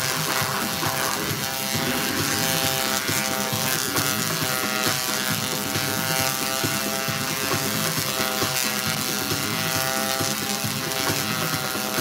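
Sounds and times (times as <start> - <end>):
electric arc buzzing and crackling: 0.0 - 12.0.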